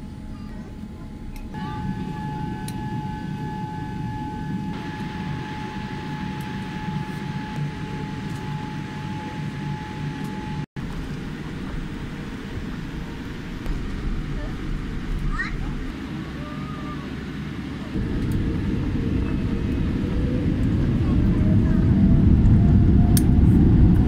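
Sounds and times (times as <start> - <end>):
jet engine whine: 0.0 - 24.0
low cabin rumble: 0.0 - 24.0.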